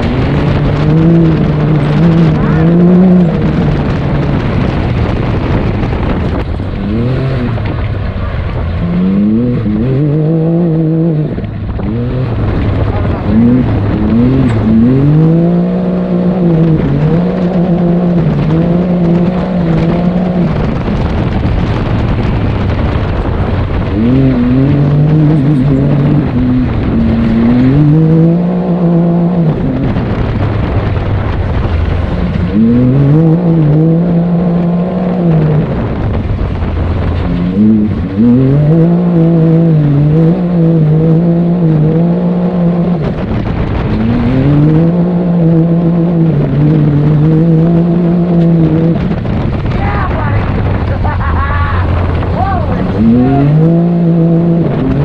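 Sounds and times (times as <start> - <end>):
engine revving: 0.0 - 55.0
wind and tyre noise: 0.0 - 55.0.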